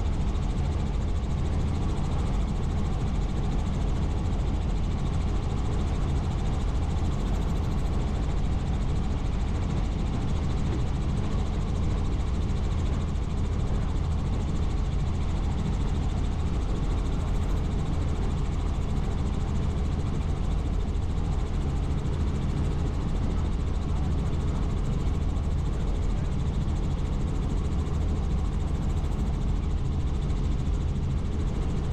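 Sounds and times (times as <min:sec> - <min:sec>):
helicopter engine and rotor drone: 0:00.0 - 0:31.9.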